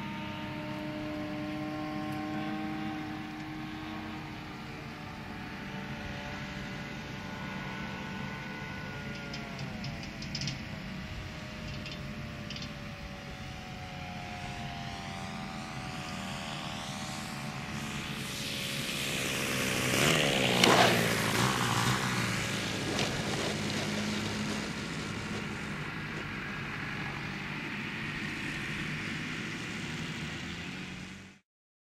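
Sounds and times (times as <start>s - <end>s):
model airplane engine whine: 0.0s - 31.4s.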